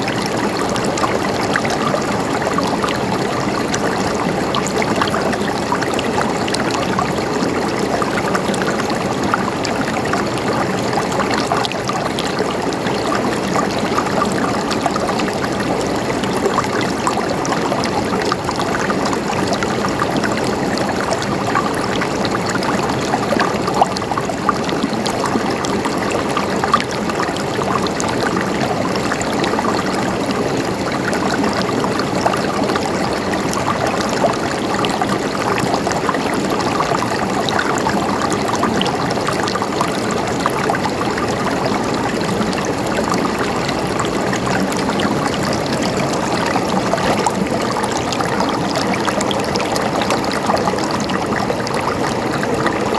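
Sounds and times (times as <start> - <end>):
water flowing and gurgling: 0.0 - 52.9
water splashes and drips: 0.0 - 52.9.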